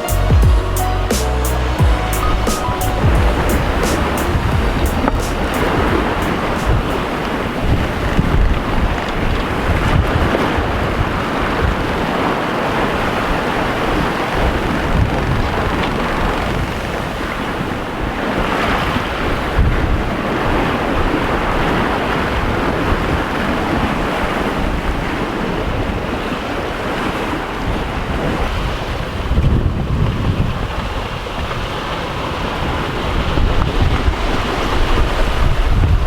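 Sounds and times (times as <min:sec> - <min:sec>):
wind buffeting microphone: 0:01.8 - 0:36.0
waves washing along hull: 0:01.9 - 0:36.0.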